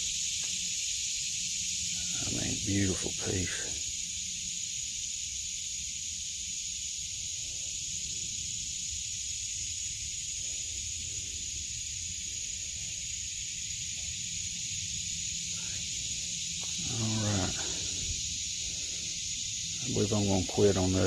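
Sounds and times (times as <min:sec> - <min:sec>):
insects chorus hissing: 0:00.0 - 0:21.0.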